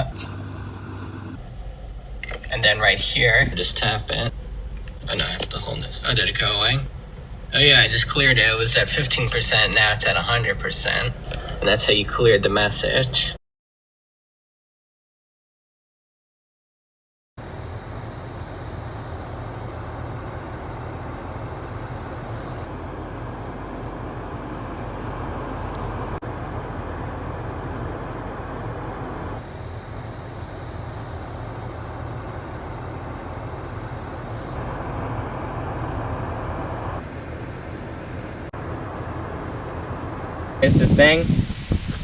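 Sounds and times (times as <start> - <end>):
defroster fan blowing air: 0.0 - 13.3, 17.4 - 42.0
car engine idling: 0.0 - 13.4, 17.4 - 42.0.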